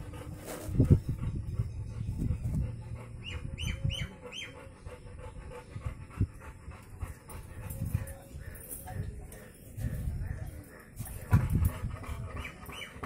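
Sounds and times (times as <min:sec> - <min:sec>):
puppy panting: 0:00.0 - 0:13.0.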